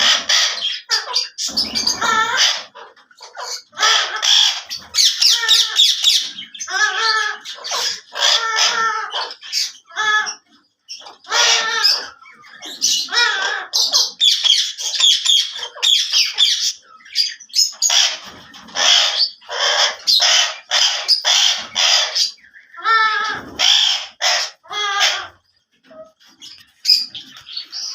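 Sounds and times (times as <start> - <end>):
parakeet squawking: 0.0 - 27.9.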